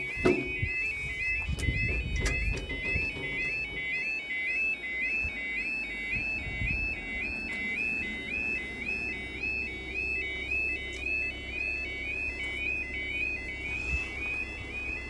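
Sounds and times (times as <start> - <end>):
level crossing warbling alarm: 0.0 - 15.0.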